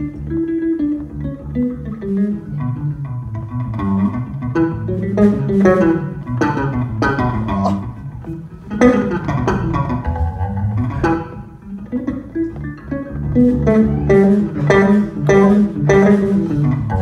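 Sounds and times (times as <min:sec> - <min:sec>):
electric bass guitar plucked notes: 0:00.0 - 0:17.0.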